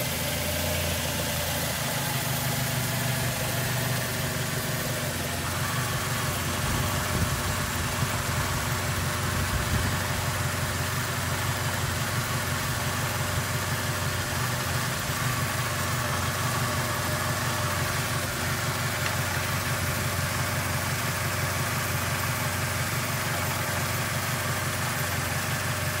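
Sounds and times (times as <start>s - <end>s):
petrol engine idling: 0.0s - 26.0s.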